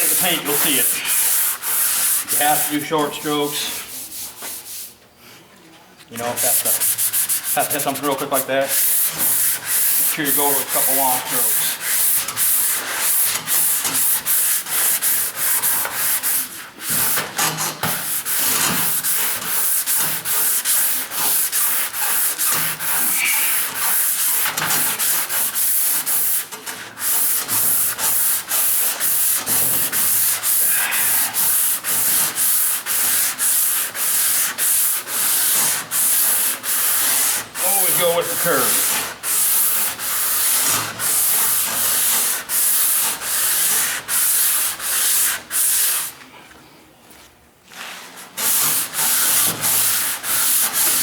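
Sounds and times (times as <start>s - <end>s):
sandpaper rubbing on metal: 0.0s - 5.0s, 6.2s - 46.2s, 48.3s - 51.0s.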